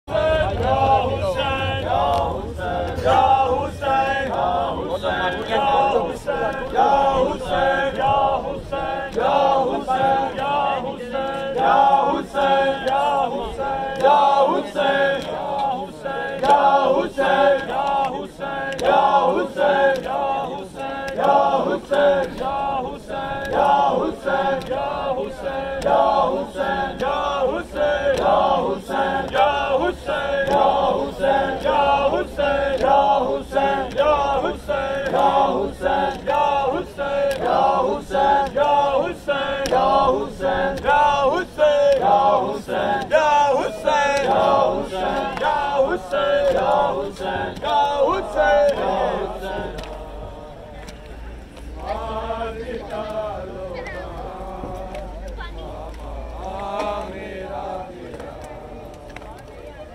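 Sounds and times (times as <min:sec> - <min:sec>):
men chanting: 0:00.0 - 0:59.0.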